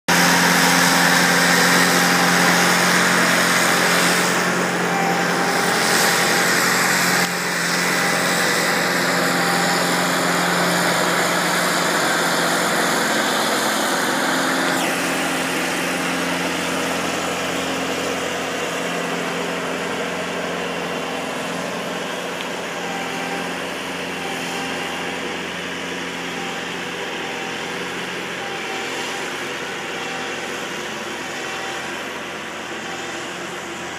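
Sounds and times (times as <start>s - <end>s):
blower throwing snow: 0.1s - 32.0s
snowblower engine hum: 0.1s - 33.9s.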